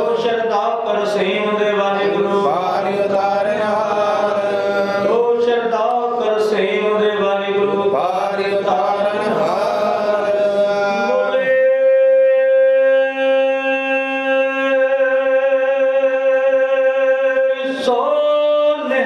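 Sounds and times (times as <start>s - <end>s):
man chanting through a microphone: 0.0s - 19.0s.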